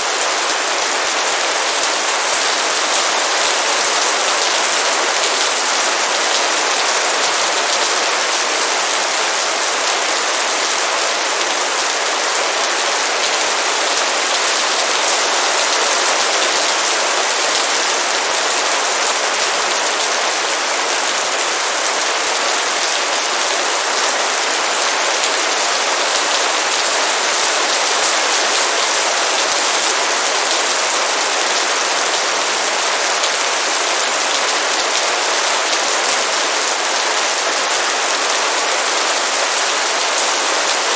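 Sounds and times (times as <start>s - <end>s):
heavy rain downpour: 0.0s - 40.9s.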